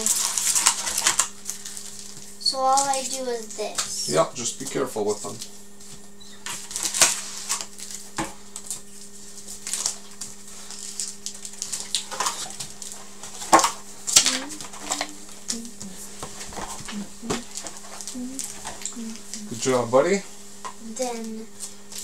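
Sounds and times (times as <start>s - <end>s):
card packs crinkling: 0.0s - 5.5s, 6.1s - 20.2s
steady low hum: 0.0s - 22.0s.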